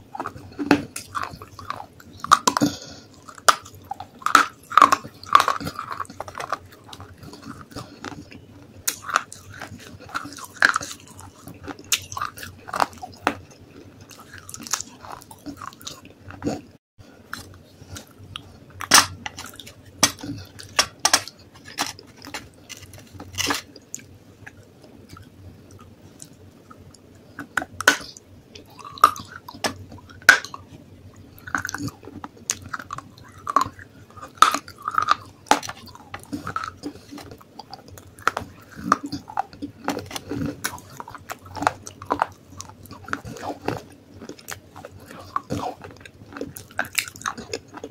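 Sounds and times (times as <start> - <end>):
crunching and chewing clay pot: 0.0 - 47.9.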